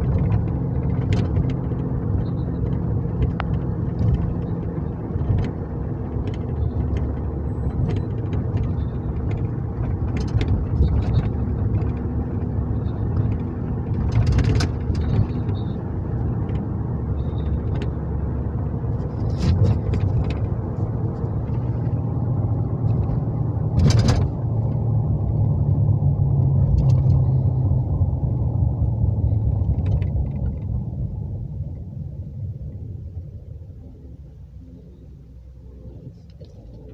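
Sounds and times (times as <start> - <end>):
car engine and road rumble: 0.0 - 36.9.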